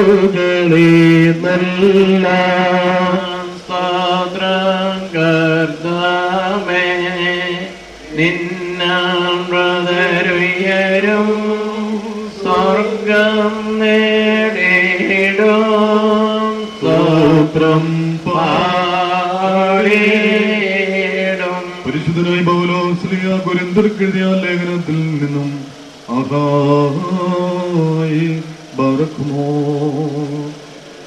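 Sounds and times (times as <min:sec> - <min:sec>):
men chanting a hymn: 0:00.0 - 0:31.0.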